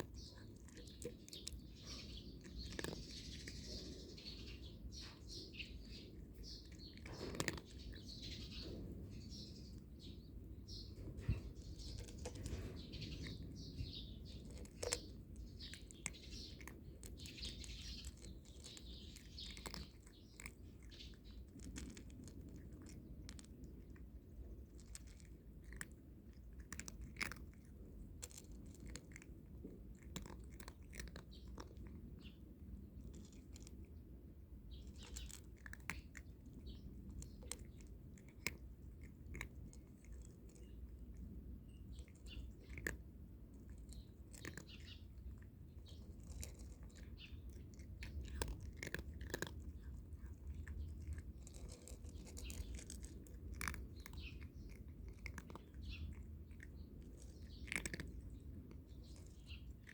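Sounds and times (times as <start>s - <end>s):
cat crunching dry food: 0.0s - 59.9s.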